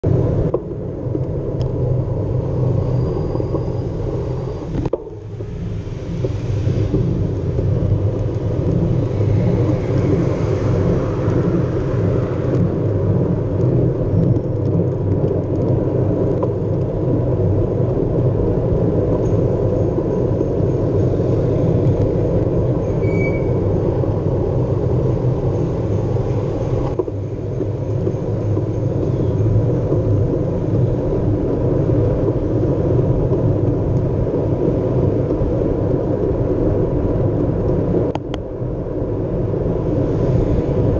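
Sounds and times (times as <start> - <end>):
wind and road noise rumble: 0.0 - 40.9.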